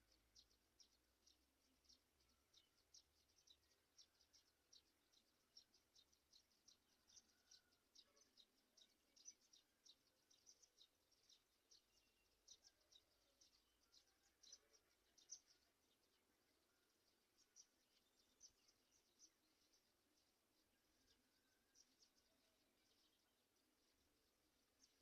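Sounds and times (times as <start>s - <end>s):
faint high-pitched chirps: 0.0s - 25.0s.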